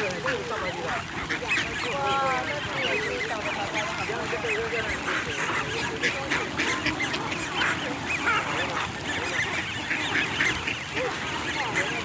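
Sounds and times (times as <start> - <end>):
flock of birds calling: 0.0 - 12.0.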